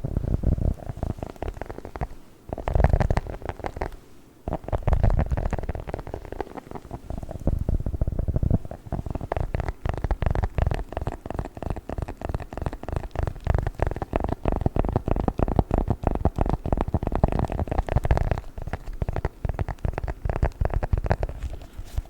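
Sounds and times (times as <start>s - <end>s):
sticky crackles and pops: 0.4s - 22.0s.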